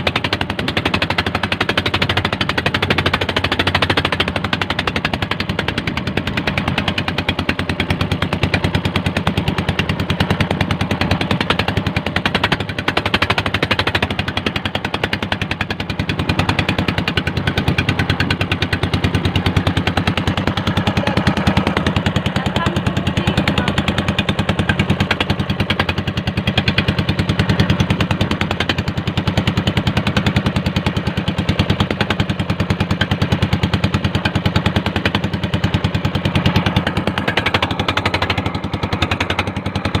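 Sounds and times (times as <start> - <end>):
boat engine popping exhaust: 0.0 - 40.0.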